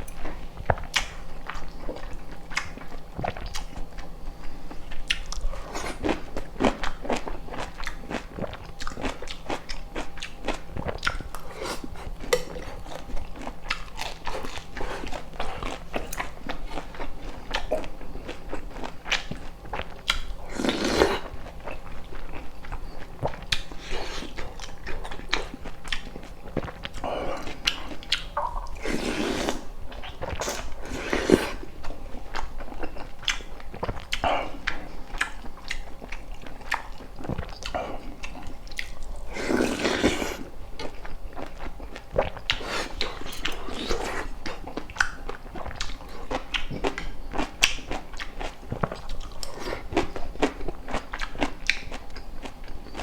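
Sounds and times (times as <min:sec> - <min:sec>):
chewing with wet mouth clicks: 0:00.0 - 0:28.8, 0:29.4 - 0:53.0.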